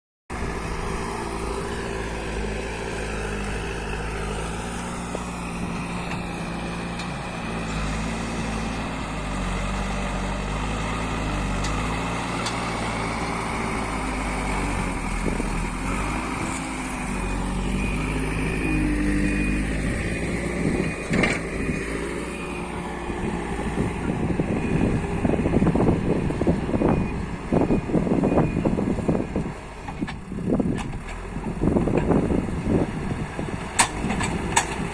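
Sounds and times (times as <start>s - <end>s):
diesel engine under load: 0.3s - 34.9s.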